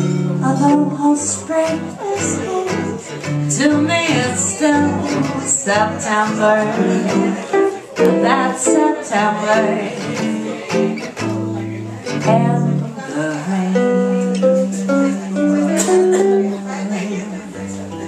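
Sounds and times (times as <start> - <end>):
woman singing jazz with vibrato: 0.0 - 10.6, 12.1 - 17.7
plucked guitar: 0.0 - 18.0.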